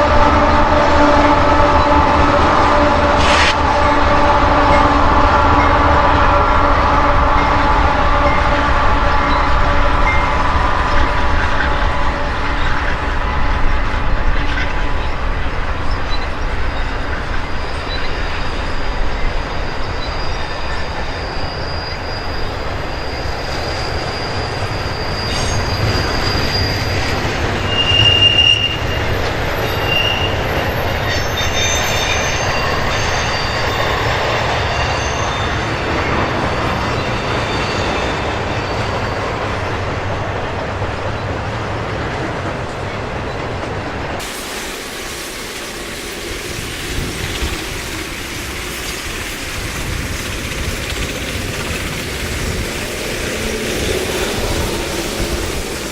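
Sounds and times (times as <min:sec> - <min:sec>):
high wheel squeals: 0:00.0 - 0:39.6, 0:45.4 - 0:55.9
freight train rumbling on rails: 0:00.0 - 0:55.9.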